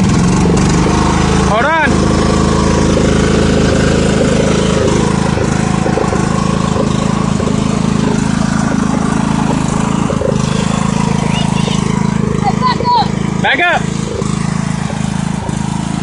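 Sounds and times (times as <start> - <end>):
small tractor engine running: 0.0 - 16.0.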